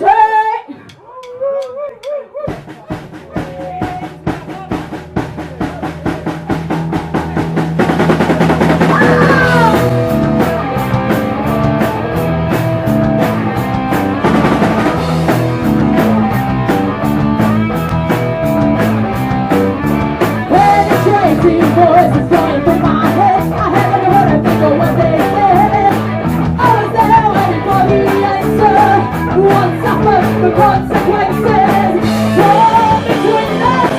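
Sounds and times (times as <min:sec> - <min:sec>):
bass guitar: 0:00.8 - 0:33.9
steady drumbeat: 0:00.8 - 0:33.9
live rock band playing: 0:00.9 - 0:33.9
electric guitar: 0:06.2 - 0:33.9.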